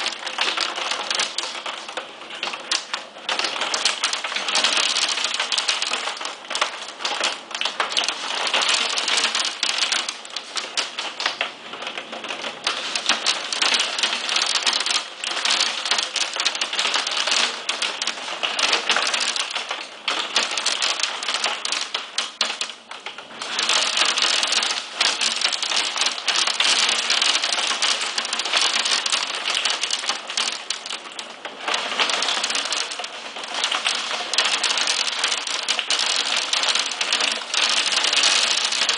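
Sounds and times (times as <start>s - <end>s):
hail pelting down with rain: 0.0s - 38.9s.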